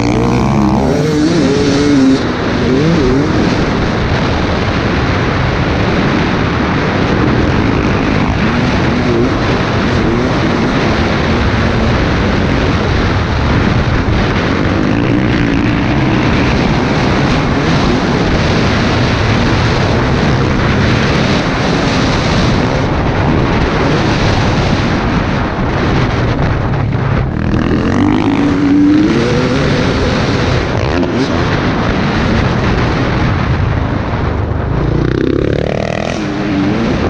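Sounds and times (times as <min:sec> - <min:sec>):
dirt bike engine revving: 0:00.0 - 0:37.0
wind rushing over microphone: 0:00.0 - 0:37.0.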